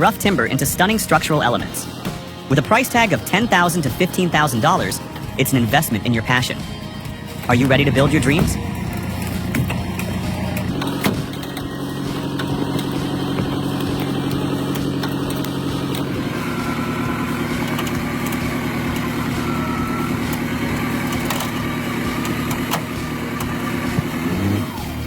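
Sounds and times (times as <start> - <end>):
machine engine running: 0.0 - 25.0.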